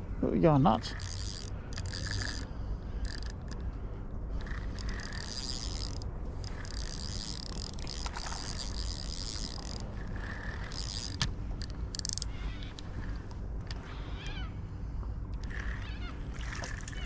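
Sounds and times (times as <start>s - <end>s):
fishing reel gears whirring: 0.6s - 3.7s, 4.4s - 14.6s, 15.3s - 17.0s.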